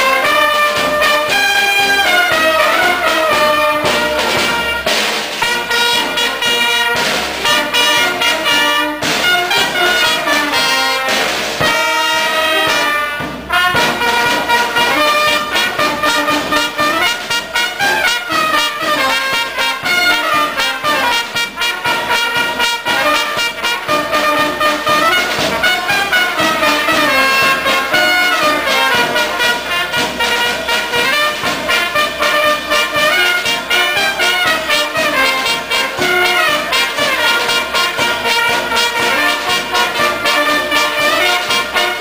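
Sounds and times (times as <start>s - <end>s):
bass drum and cymbal beat: 0.0s - 42.0s
trumpets playing melody: 0.0s - 42.0s.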